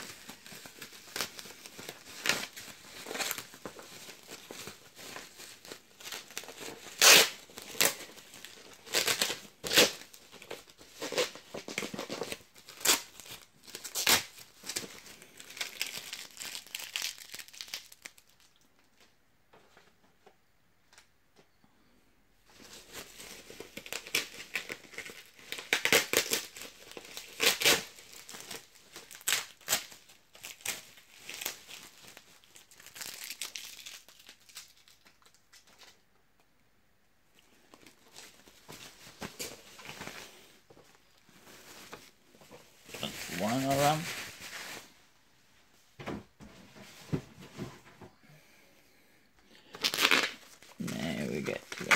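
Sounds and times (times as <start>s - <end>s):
bubble wrap crinkling and tearing: 0.0s - 19.2s, 22.5s - 36.0s, 37.4s - 45.1s, 49.6s - 51.9s.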